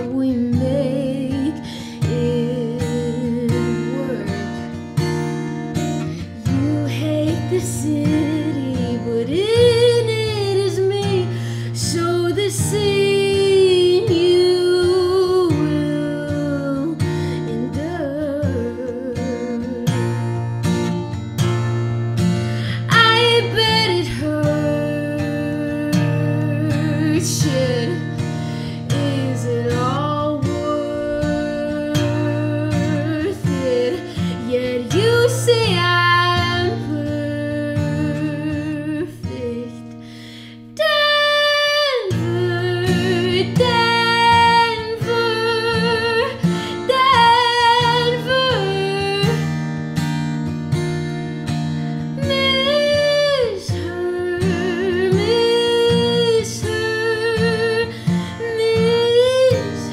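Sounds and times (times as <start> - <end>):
woman singing with vibrato: 0.0 - 21.0, 22.6 - 49.6, 52.0 - 59.9
acoustic guitar: 0.0 - 59.9.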